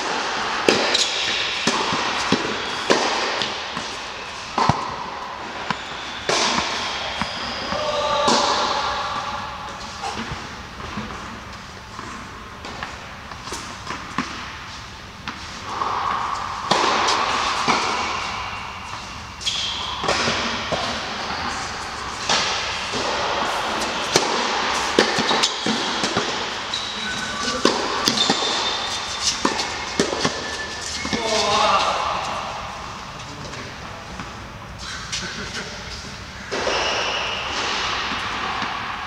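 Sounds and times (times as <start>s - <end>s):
tennis ball bouncing: 0.0s - 31.2s, 36.5s - 38.9s
rackets hitting tennis ball: 0.0s - 39.0s.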